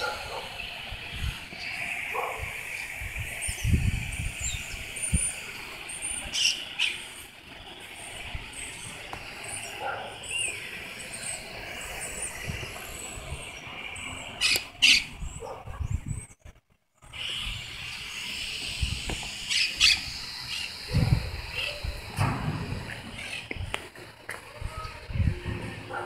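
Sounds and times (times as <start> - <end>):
parakeets chirping: 0.0 - 16.2, 17.1 - 22.2, 22.8 - 23.7
street traffic hum: 0.0 - 26.0.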